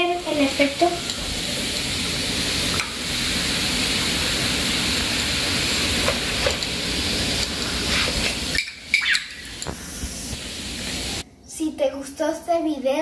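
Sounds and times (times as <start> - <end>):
foam fizzing: 0.0 - 11.2.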